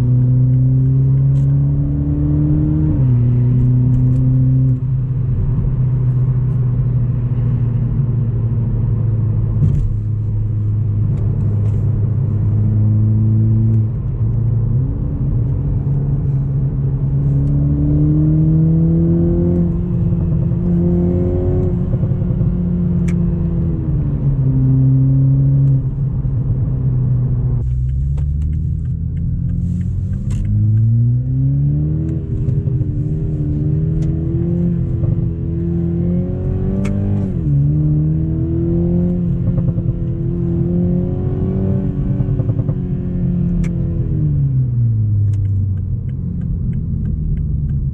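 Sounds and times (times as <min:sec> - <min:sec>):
turbocharged car engine accelerating: 0:00.0 - 0:47.9.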